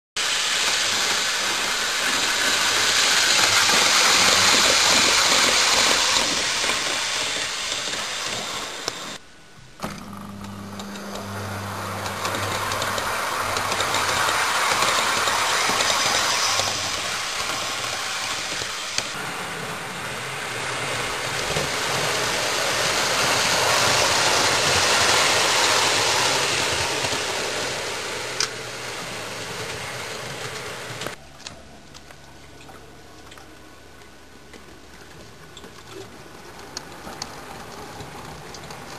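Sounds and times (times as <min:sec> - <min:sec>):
model train whirring on track: 0:00.2 - 0:09.2, 0:10.5 - 0:31.2, 0:36.3 - 0:38.9.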